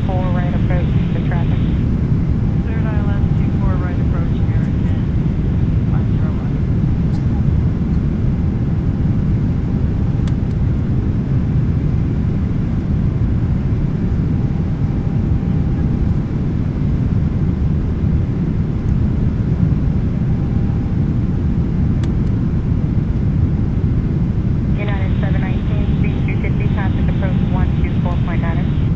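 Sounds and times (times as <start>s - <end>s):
aircraft engine rumble: 0.0s - 28.9s
faint steady hum: 0.0s - 28.9s.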